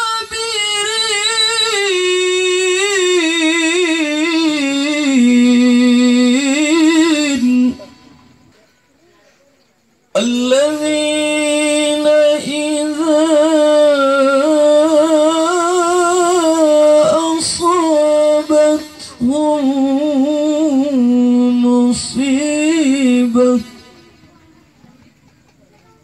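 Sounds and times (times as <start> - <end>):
man chanting into a microphone: 0.0 - 8.1, 10.2 - 24.0.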